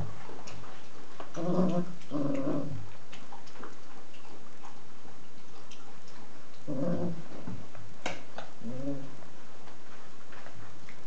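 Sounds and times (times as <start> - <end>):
faint clicks and rustles: 0.0 - 11.0.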